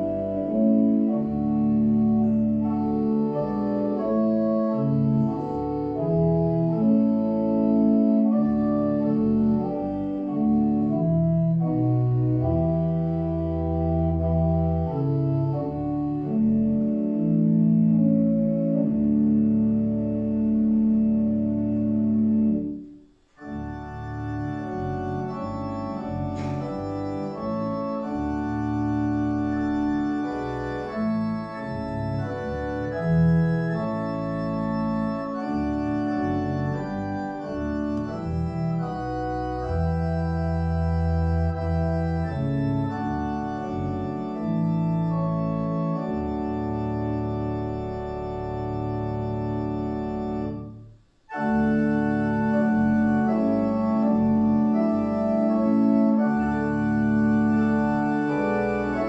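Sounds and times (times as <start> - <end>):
church organ playing hymn chords: 0.0 - 59.0.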